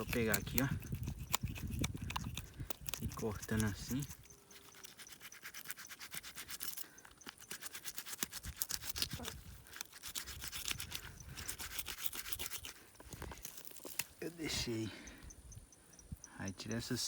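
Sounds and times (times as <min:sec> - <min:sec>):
knife sawing through fish: 0:00.0 - 0:14.1.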